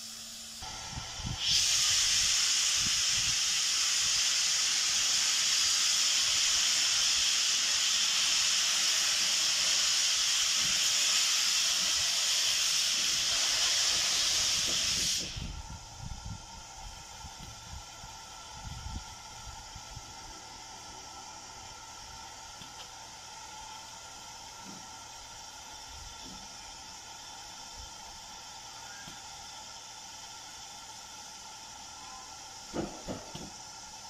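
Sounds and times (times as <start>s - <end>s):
locomotive safety valve hissing: 0.0s - 34.0s.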